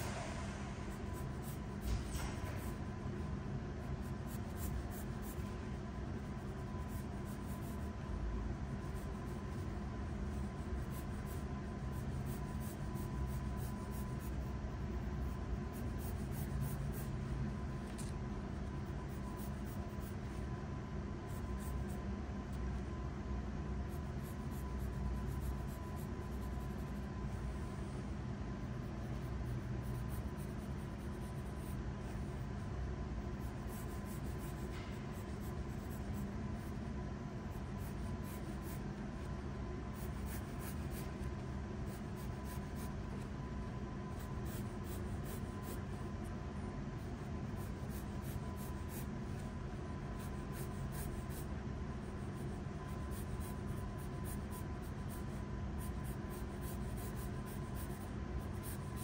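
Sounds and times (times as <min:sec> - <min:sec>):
pencil scratching on paper: 0:00.0 - 0:20.5, 0:21.2 - 0:22.6, 0:23.8 - 0:32.6, 0:33.2 - 0:59.0
faint hum: 0:00.0 - 0:59.0.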